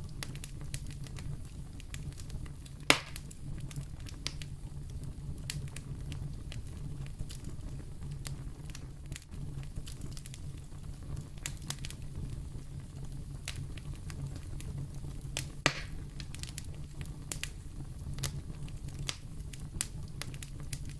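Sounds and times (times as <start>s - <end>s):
fire hissing: 0.0s - 20.9s
wood fire crackling and popping: 0.0s - 20.9s.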